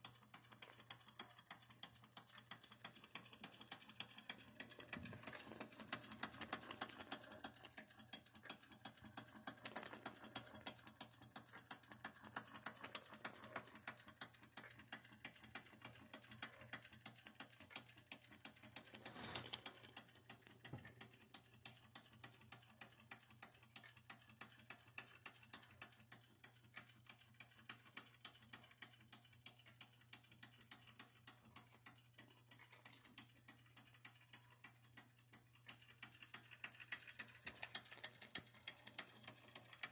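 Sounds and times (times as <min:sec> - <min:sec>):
rapid regular clicking: 0:00.0 - 0:39.9.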